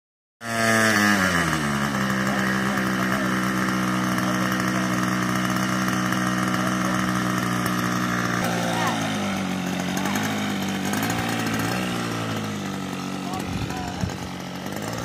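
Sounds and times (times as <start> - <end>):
small engine running: 0.4 - 15.0.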